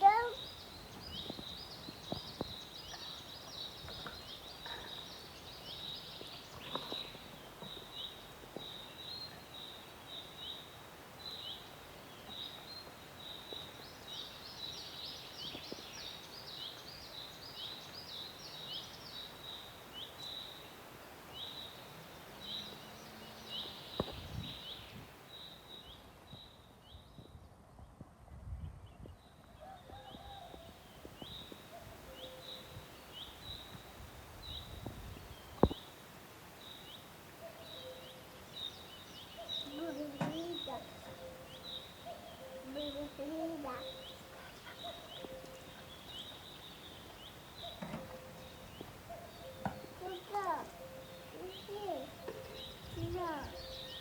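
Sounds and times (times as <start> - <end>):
small birds chirping: 0.0 - 27.6, 28.8 - 54.0.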